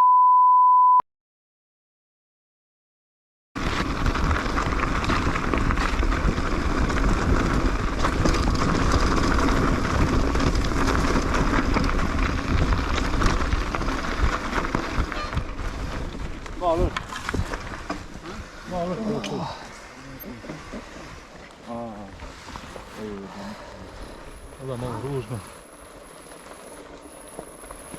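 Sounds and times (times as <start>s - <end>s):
tyres rumbling over dirt and stones: 3.6s - 27.9s.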